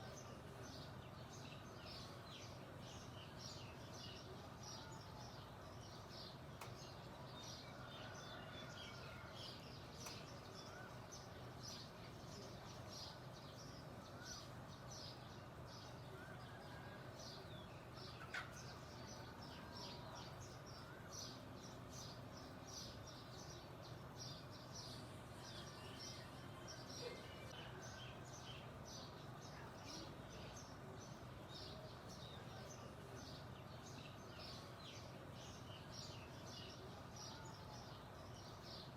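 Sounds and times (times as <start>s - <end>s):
faint low hum: 0.0s - 38.9s
songbirds chirping: 0.0s - 38.9s.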